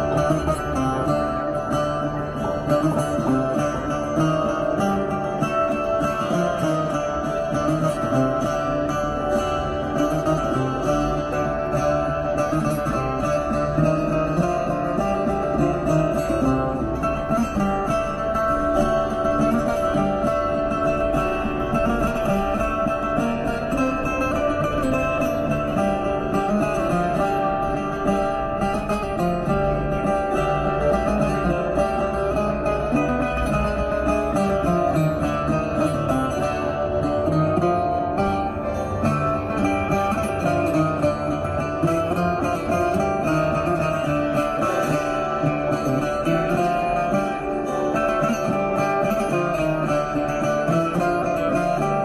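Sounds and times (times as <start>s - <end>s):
lap steel guitar melody: 0.0s - 52.0s.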